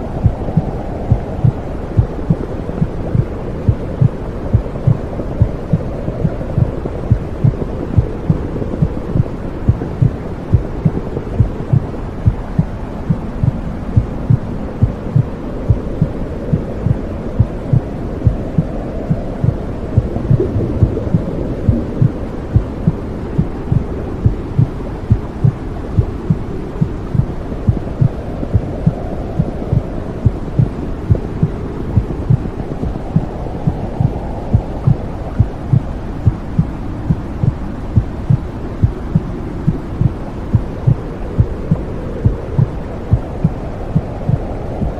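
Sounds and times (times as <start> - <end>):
low whooshing hum: 0.0 - 44.9
heartbeat thumps: 0.2 - 44.9.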